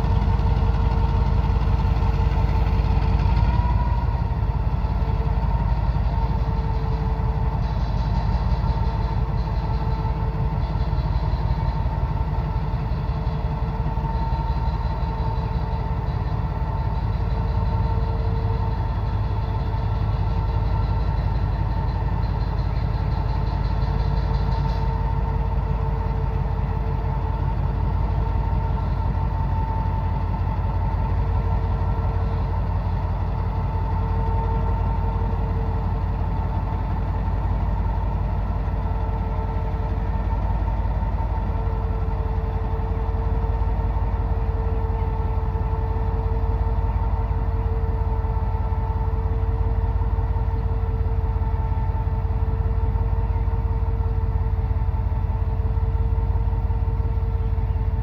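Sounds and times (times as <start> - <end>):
diesel locomotive engine idling: 0.0 - 58.0
steady whine: 0.0 - 58.0.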